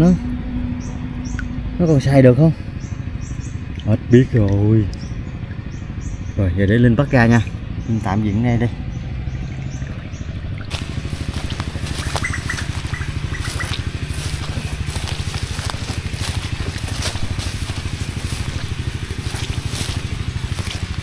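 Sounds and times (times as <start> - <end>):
small boat engine putter: 2.8 - 21.0.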